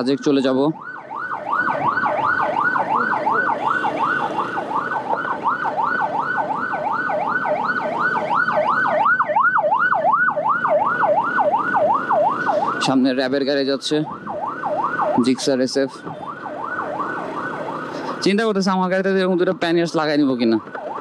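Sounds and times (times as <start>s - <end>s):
traffic noise: 0.0s - 21.0s
yelp siren: 0.2s - 19.2s, 20.0s - 21.0s.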